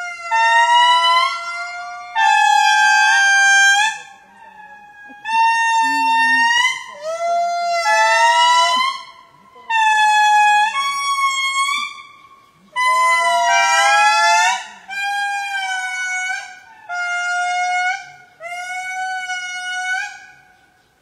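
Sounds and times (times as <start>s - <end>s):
lemur trumpet-like calls: 0.0s - 21.0s.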